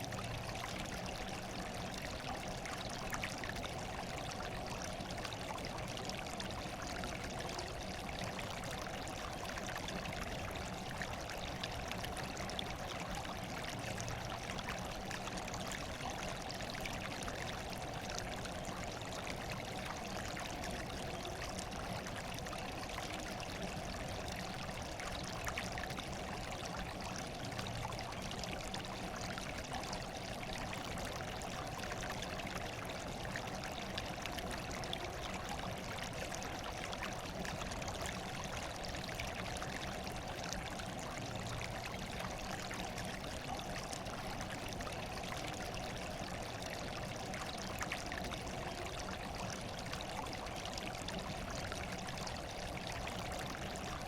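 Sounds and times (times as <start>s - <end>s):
running water trickling: 0.0s - 54.0s.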